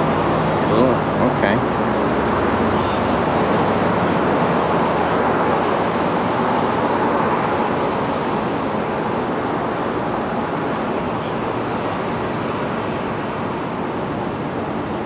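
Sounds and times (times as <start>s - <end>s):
road traffic hiss and rumble: 0.0s - 15.0s.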